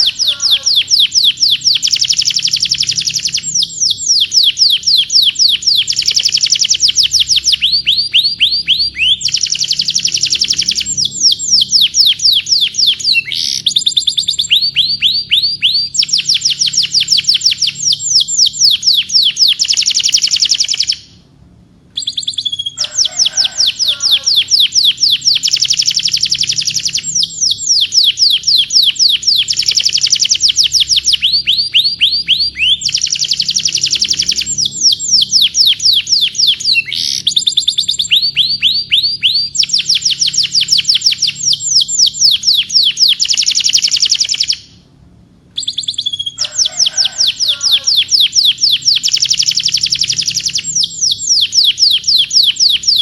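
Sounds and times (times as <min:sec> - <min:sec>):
canary singing trills: 0:00.0 - 0:21.3, 0:21.9 - 0:44.8, 0:45.6 - 0:53.0.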